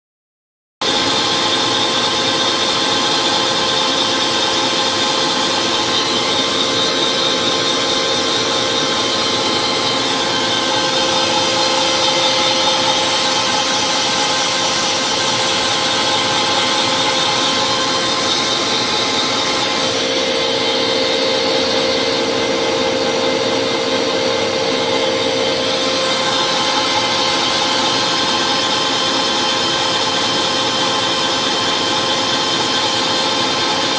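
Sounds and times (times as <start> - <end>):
grinder spindle whining: 0.8 - 33.9.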